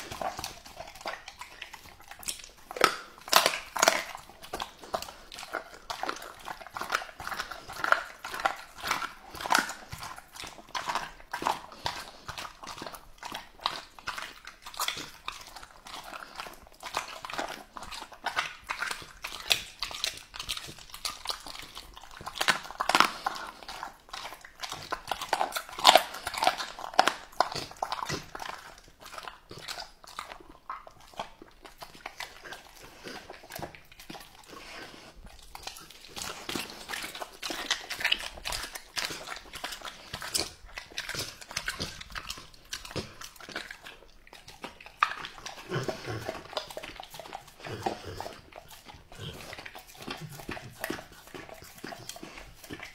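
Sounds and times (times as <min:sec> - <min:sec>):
dog chewing and tearing meat: 0:00.0 - 0:52.9.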